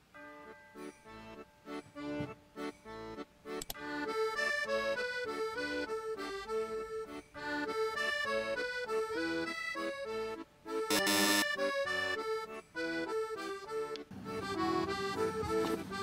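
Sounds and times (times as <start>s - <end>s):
instrumental background music: 0.1s - 16.0s.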